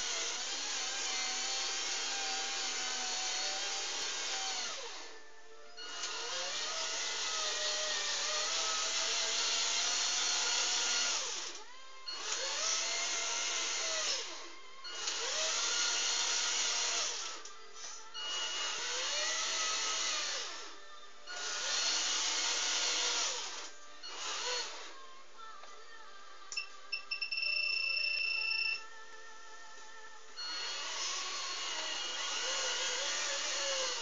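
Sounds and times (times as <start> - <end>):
toy truck electric motor whining: 0.0 - 5.2, 5.8 - 25.0, 30.4 - 34.0.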